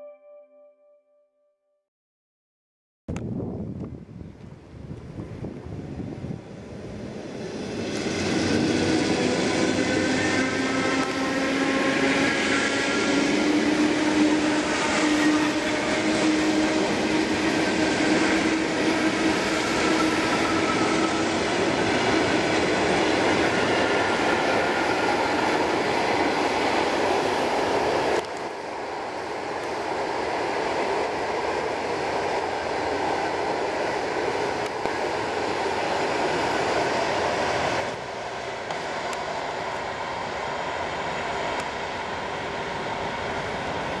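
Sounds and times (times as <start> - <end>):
train wheels on rails: 3.8 - 44.0.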